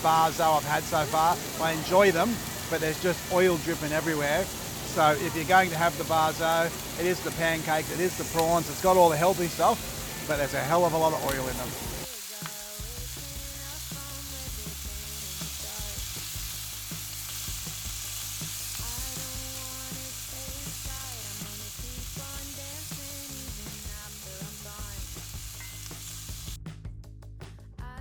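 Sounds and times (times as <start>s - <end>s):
food frying in hot oil: 0.0s - 26.6s.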